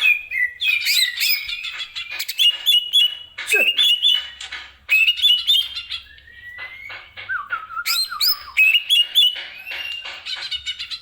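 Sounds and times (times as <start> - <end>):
bird singing chirps and whistles: 0.0 - 11.0.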